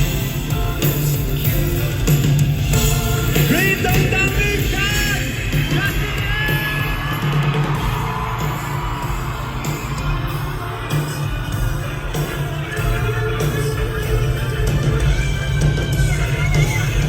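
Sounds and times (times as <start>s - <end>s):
audience whooping and yelling: 0.0s - 17.0s
live band playing: 0.0s - 17.0s.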